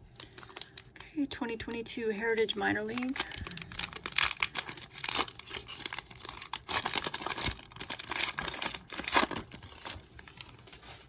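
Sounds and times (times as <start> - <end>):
card pack wrapper crinkling: 0.2 - 1.0, 2.3 - 11.0.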